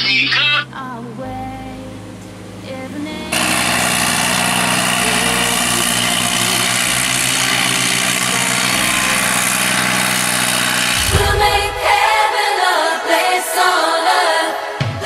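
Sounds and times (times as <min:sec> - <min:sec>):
combine harvester engine humming: 0:00.0 - 0:12.1
background music: 0:00.0 - 0:15.0.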